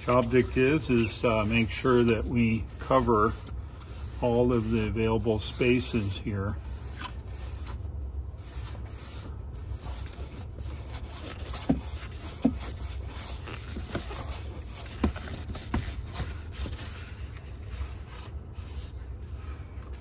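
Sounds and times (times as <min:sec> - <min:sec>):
applicator rubbing on upholstery: 0:00.0 - 0:19.7.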